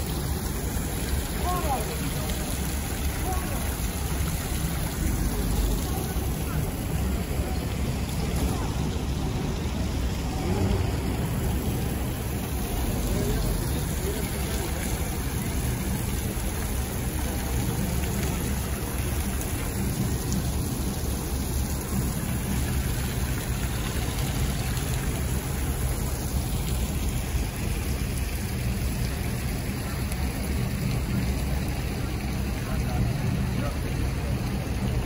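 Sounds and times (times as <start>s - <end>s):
fountain water splashing: 0.0s - 35.0s
low constant rumble: 0.0s - 35.0s.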